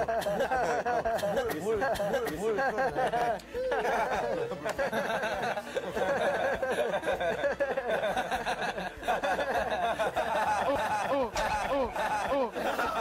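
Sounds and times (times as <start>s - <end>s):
people laughing: 0.0s - 13.0s
people talking: 0.1s - 13.0s.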